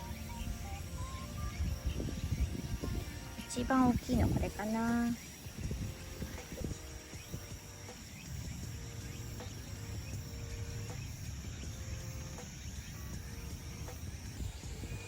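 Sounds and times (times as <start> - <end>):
insects trilling: 0.0 - 15.0
wind rumble on microphone: 0.1 - 15.0.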